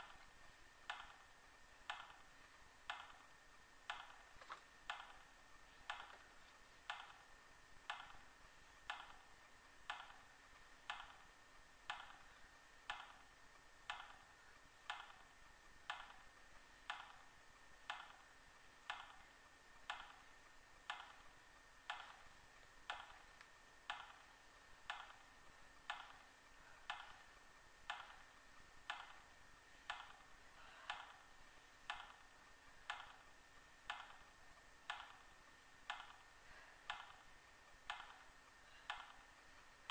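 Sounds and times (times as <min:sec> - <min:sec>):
clock-like ticking: 0:00.0 - 0:39.9.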